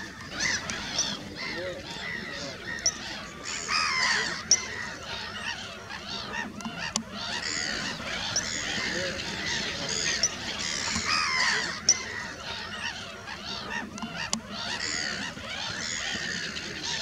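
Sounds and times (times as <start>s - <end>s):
waterbirds honking: 0.0s - 17.0s.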